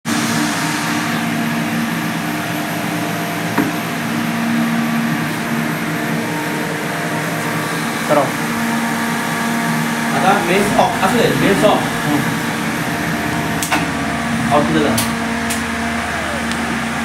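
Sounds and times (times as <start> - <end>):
cooling fan whirring: 0.0 - 17.0
electrical hum with held tones: 0.1 - 17.0.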